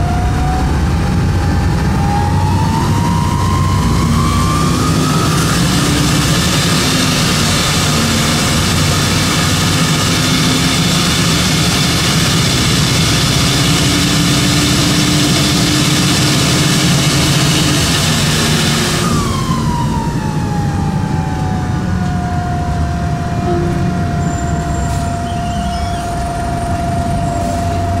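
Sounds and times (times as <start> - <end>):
bus diesel engine roaring: 0.0 - 28.0
high turbo whine: 0.0 - 28.0.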